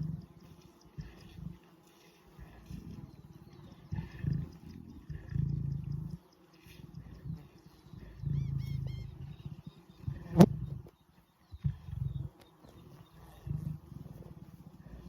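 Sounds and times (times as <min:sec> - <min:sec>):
lion growling: 0:00.0 - 0:10.9, 0:11.6 - 0:12.3, 0:13.0 - 0:15.0.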